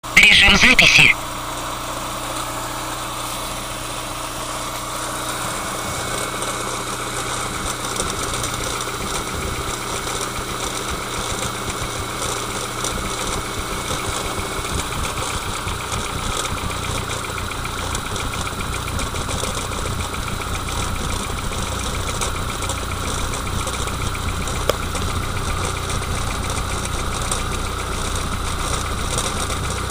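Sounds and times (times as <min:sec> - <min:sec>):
car engine idling with rattle: 0:02.6 - 0:29.9.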